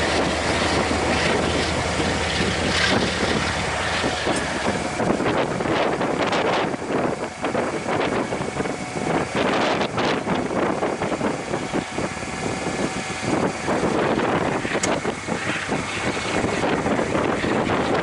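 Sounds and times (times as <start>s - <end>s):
freight train wheels on rails: 0.0s - 18.0s
wind gusting on microphone: 0.0s - 18.0s.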